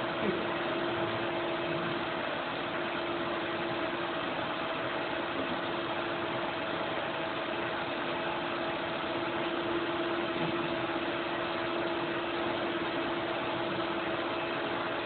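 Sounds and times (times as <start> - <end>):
vacuum cleaner motor running: 0.0 - 15.0.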